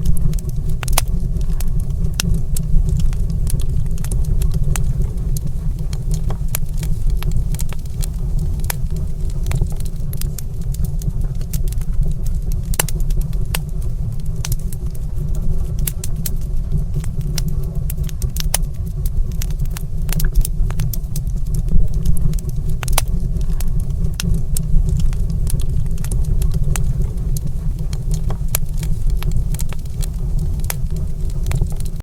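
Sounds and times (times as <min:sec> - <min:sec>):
low rumble: 0:00.0 - 0:32.0
wood fire crackling and popping: 0:00.0 - 0:32.0.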